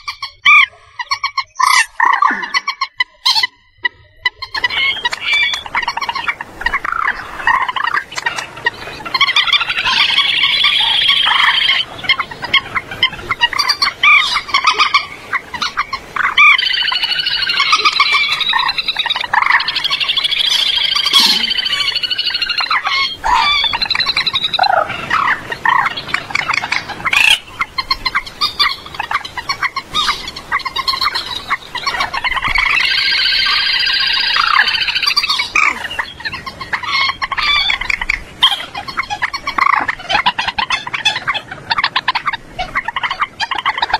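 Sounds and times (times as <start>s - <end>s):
moorhen harsh chattering calls: 0.0s - 43.9s.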